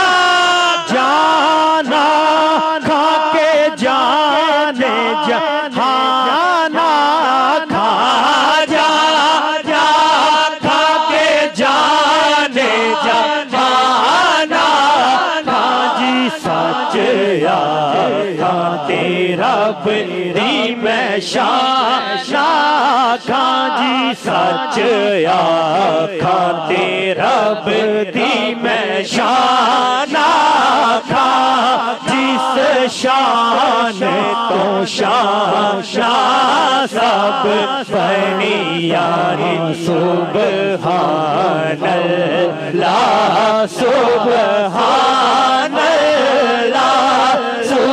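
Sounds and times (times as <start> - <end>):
men chanting over sound system: 0.0 - 47.9.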